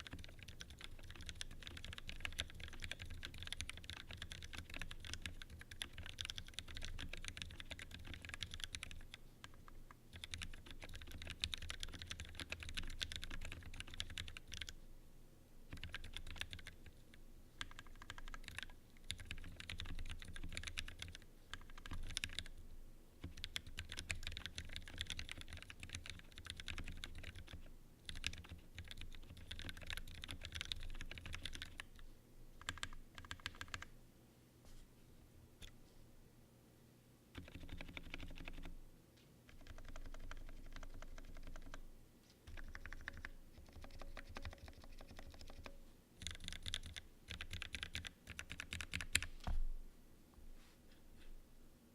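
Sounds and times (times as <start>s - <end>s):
mechanical keyboard typing: 0.0s - 14.8s, 15.7s - 17.0s, 17.6s - 22.5s, 23.2s - 32.0s, 32.6s - 33.9s, 37.4s - 38.7s, 39.5s - 41.8s, 42.5s - 49.3s.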